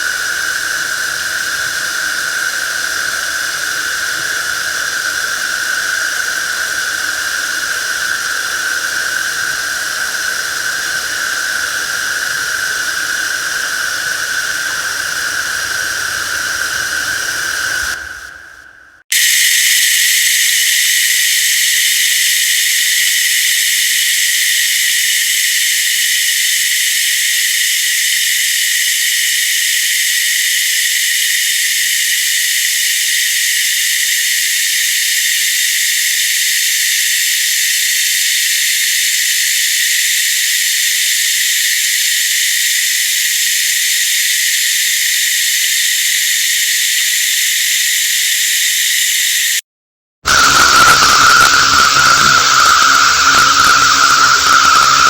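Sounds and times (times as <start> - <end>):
high-pitched water hiss: 0.0 - 49.6, 50.3 - 55.0.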